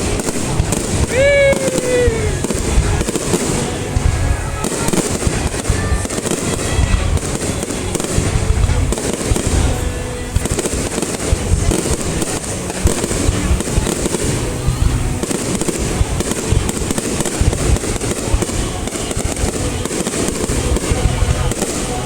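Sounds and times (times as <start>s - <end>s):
falling firework whistle: 0.0s - 22.0s
fireworks booming and crackling: 0.0s - 22.0s.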